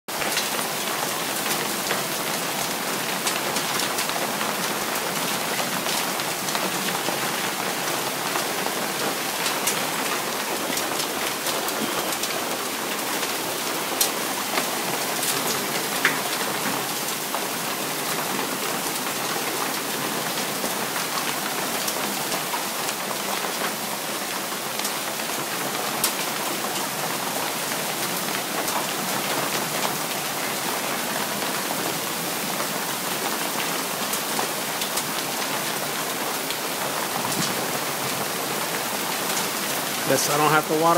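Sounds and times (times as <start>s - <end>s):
heavy rain pouring: 0.1s - 40.9s.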